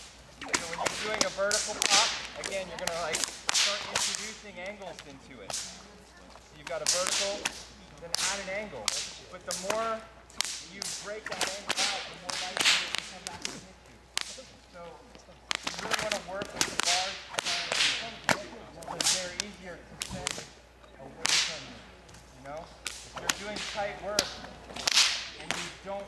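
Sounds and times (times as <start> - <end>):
whips cracking: 0.0 - 5.8, 6.6 - 14.5, 15.5 - 20.5, 21.2 - 21.8, 22.8 - 26.0.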